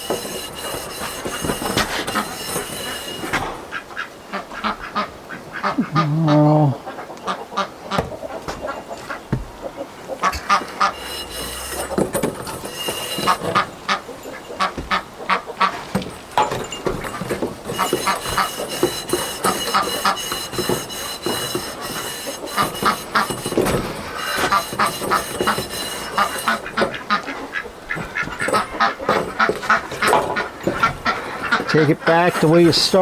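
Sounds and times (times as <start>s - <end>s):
metal band high ringing: 0.0s - 3.8s, 7.8s - 33.0s
scouring pad scrubbing steel: 0.0s - 3.8s, 7.9s - 33.0s
squeaks: 0.0s - 6.1s, 6.9s - 33.0s.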